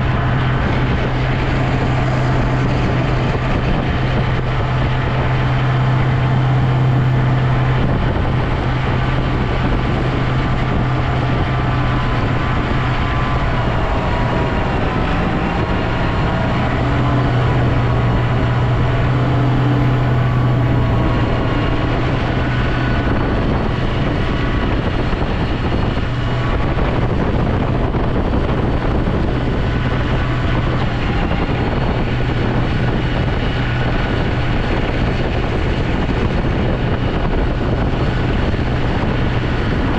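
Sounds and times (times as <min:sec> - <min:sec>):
snow plow engine droning: 0:00.0 - 0:39.9.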